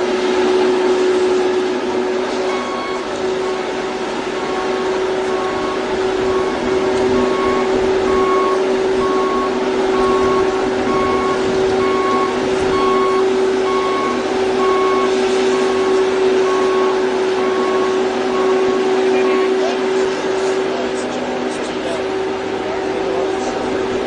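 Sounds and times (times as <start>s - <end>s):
heavy machinery running: 0.0s - 24.0s
reversing alarm beeping: 0.0s - 24.0s.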